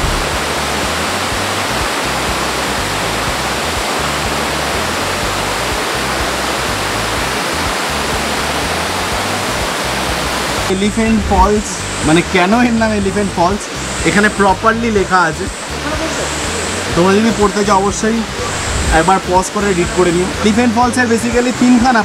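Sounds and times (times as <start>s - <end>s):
waterfall rushing over rocks: 0.0s - 22.0s.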